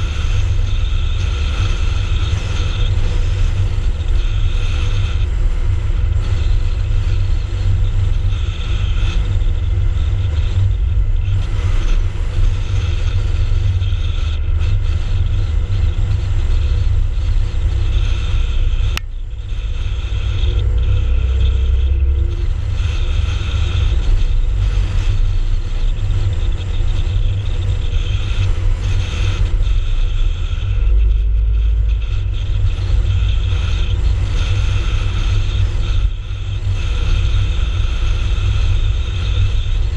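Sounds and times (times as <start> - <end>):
car driving on open road: 0.0 - 39.9.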